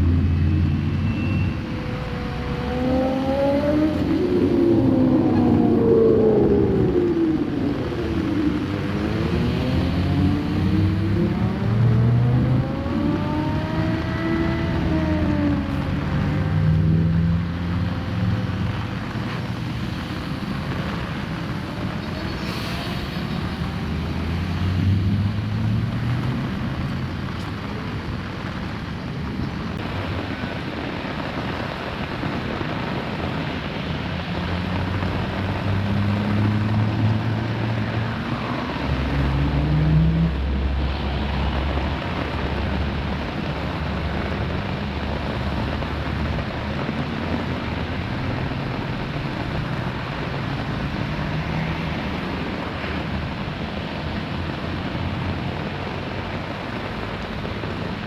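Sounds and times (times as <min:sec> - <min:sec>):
engine running under varying load: 0:00.0 - 0:58.0
steady rushing noise: 0:00.0 - 0:58.0.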